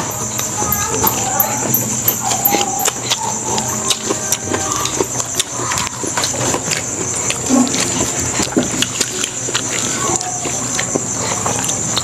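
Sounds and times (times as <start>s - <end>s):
chewing and lip-smacking: 0.1s - 12.0s.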